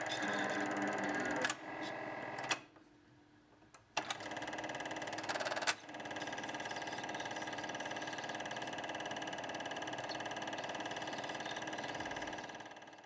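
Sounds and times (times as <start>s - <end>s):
film projector clattering: 0.0s - 1.6s, 4.0s - 13.0s.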